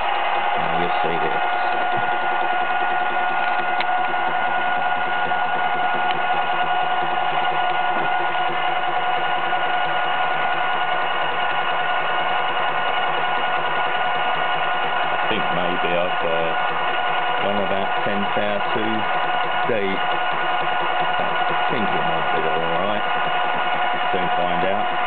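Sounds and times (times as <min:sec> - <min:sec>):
milling machine whining: 0:00.0 - 0:25.0.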